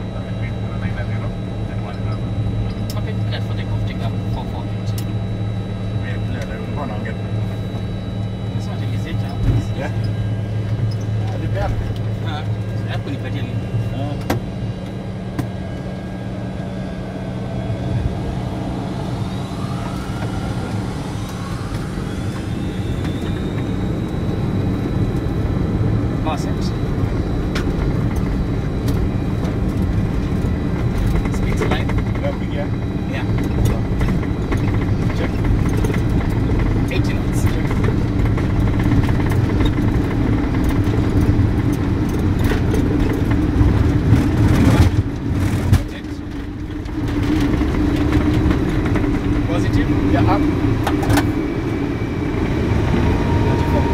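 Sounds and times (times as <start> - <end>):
jet engines rumbling with turbine whine: 0.0 - 53.9.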